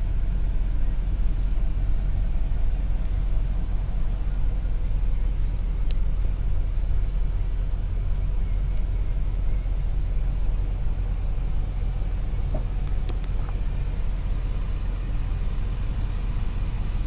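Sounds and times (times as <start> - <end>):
engine running low rumble: 0.0 - 17.0.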